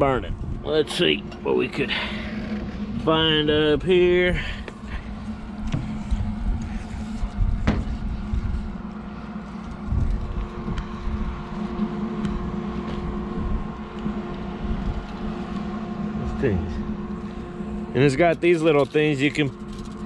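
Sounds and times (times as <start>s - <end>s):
low rumble: 0.0s - 20.0s
mechanical hum: 0.0s - 20.0s.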